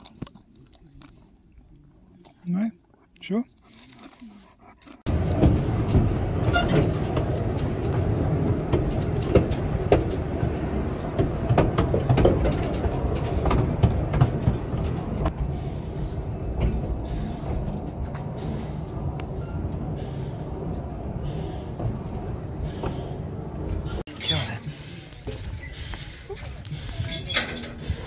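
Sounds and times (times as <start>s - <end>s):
wheels and couplings clicking: 3.2s - 28.0s
railway carriage rumbling on track: 5.0s - 28.0s.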